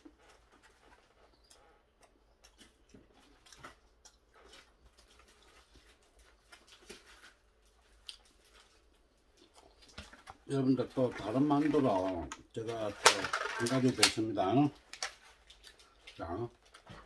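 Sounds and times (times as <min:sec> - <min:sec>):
faint chewing: 0:00.0 - 0:11.0, 0:12.0 - 0:17.0.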